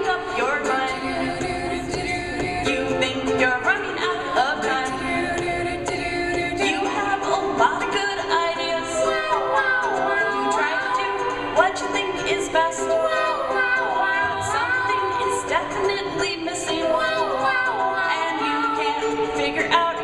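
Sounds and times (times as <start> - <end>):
voices singing in harmony: 0.0 - 20.0.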